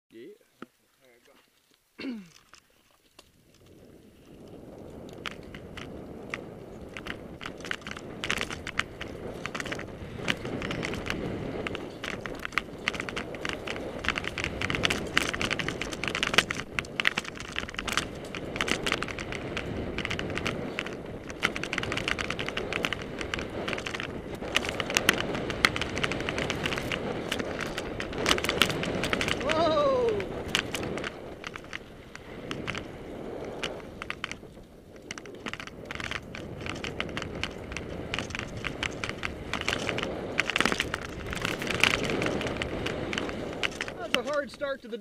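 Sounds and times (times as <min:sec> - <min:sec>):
bike tyres rushing on dirt: 0:00.7 - 0:45.0
bike rattling over bumps: 0:02.3 - 0:45.0.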